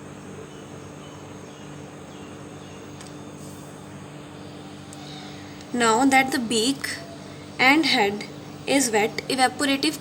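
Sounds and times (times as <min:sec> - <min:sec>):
room hum and hiss: 0:00.0 - 0:10.0.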